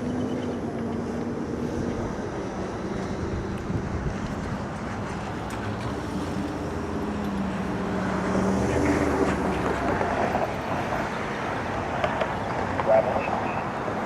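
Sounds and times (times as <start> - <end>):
passing vehicle engine hum: 0.0 - 14.0
road traffic noise: 0.0 - 14.0
wind buffeting microphone: 0.1 - 12.0.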